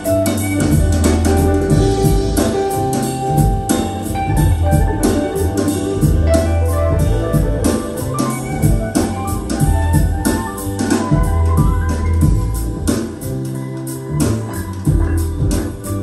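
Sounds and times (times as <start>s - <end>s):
band music over speakers: 0.0s - 16.0s.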